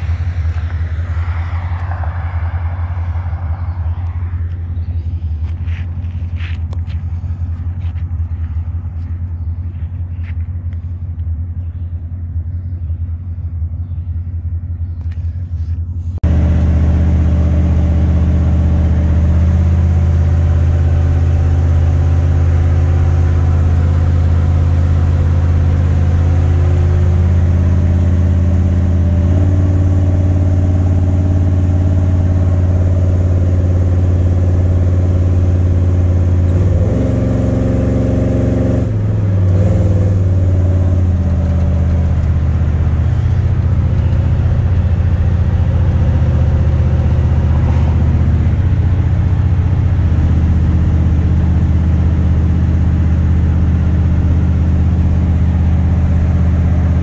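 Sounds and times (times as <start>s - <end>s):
truck engine droning inside cab: 0.0s - 57.0s.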